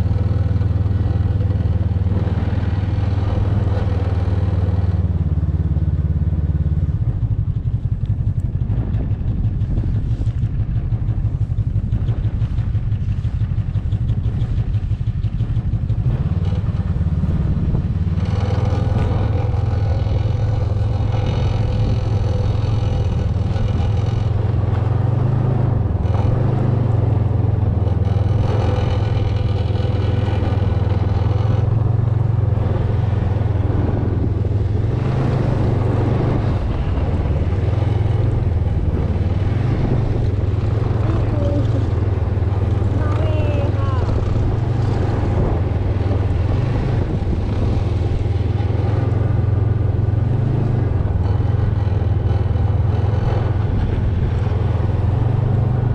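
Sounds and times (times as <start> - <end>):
snowmobile engine running: 0.0 - 55.9.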